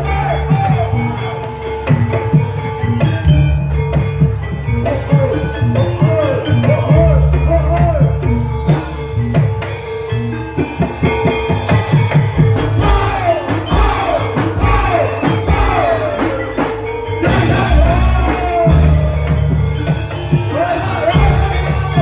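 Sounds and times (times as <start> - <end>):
gamelan music: 0.0 - 22.0.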